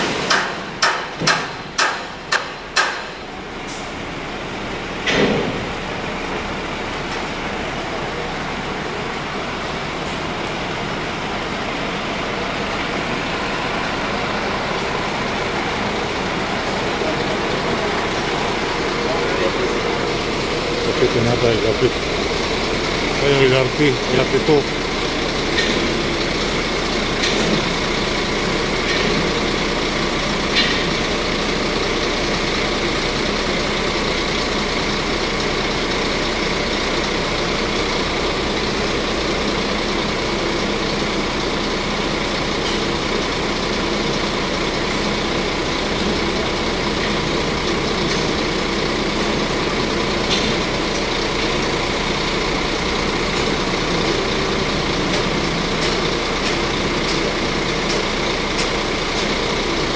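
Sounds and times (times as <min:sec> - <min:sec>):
heavy vehicle engine and road noise: 0:00.0 - 0:59.9.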